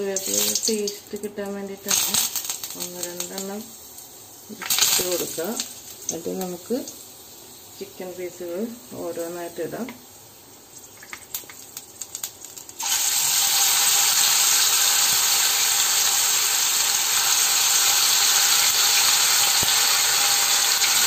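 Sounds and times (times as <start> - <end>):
deep-frying sizzle: 0.0 - 21.0
hot oil crackling: 0.0 - 21.0.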